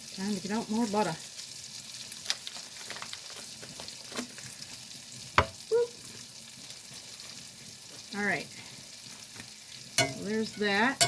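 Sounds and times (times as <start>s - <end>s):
vegetables sizzling in butter: 0.0s - 11.0s.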